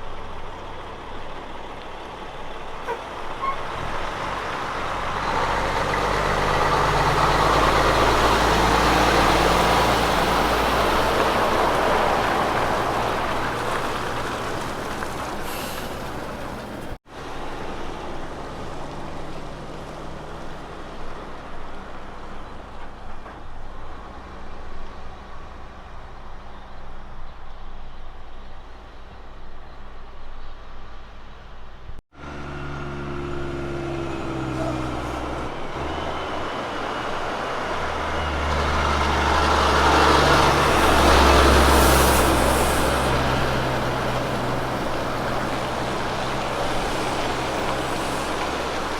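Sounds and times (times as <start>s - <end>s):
truck engine droning: 0.0s - 48.9s
truck passing by: 0.0s - 48.9s.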